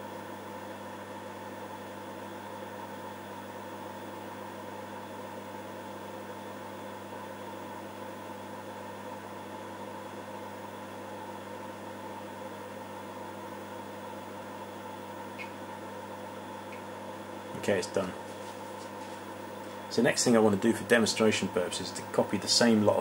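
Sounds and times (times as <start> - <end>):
computer fan hum: 0.0 - 23.0.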